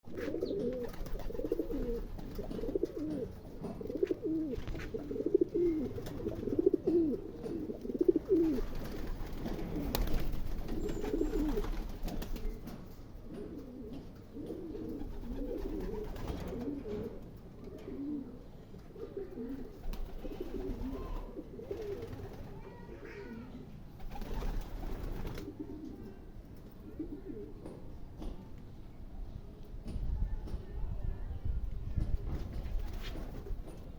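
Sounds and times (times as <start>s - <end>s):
pigeons cooing: 0.1s - 12.7s, 13.3s - 27.9s.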